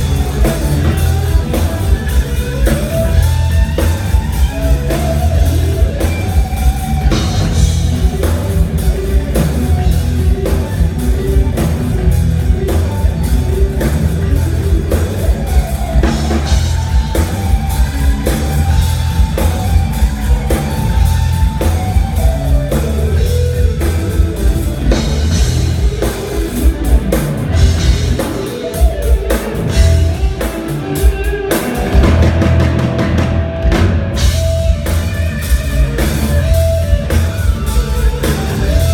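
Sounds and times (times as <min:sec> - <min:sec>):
drum kit: 0:00.0 - 0:38.9
electric guitar lead: 0:00.0 - 0:38.9.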